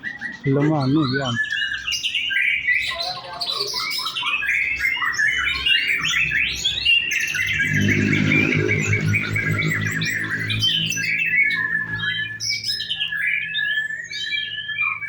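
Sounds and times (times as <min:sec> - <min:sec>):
bird singing whistles and chirps: 0:00.0 - 0:15.0.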